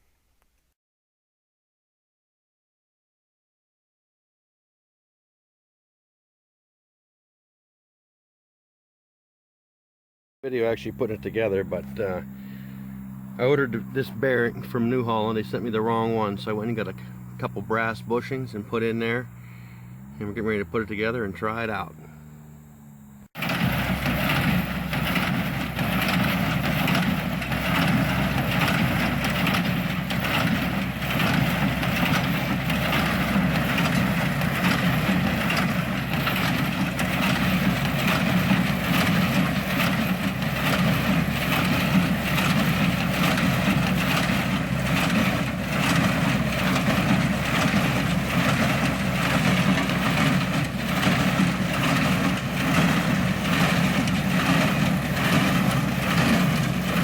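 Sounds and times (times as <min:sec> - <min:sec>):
square baler running: 0:10.4 - 0:57.0
tractor engine running: 0:10.5 - 0:57.0.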